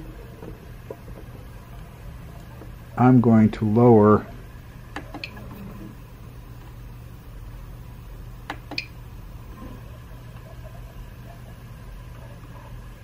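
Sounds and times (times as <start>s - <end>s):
three d printer humming: 0.0s - 13.0s.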